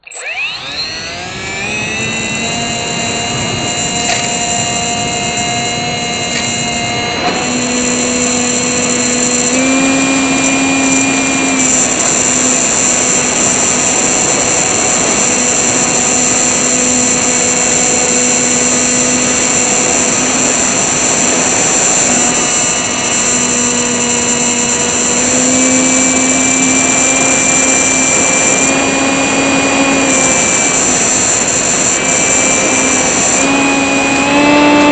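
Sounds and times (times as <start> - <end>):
small motor high whine: 0.0 - 34.9.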